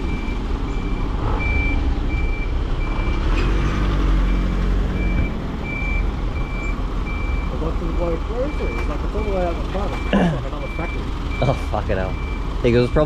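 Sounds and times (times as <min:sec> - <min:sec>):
truck warning beeper: 0:00.0 - 0:03.4, 0:04.3 - 0:13.0
truck engine rumble: 0:00.0 - 0:13.0.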